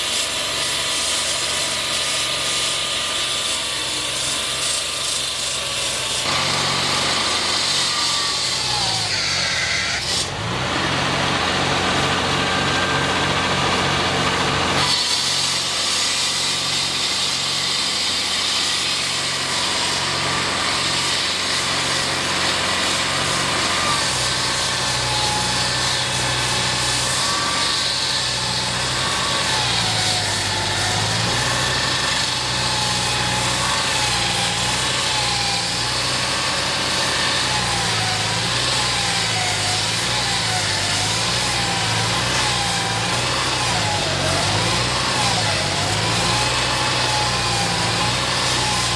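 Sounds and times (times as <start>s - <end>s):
engine-driven machinery running: 0.0s - 48.9s.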